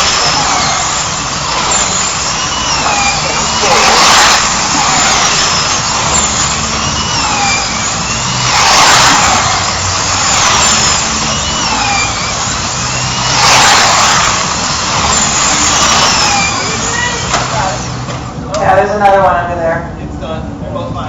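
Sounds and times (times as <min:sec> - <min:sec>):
slot car motors whining: 0:00.0 - 0:19.2
steady rushing noise: 0:00.0 - 0:21.0.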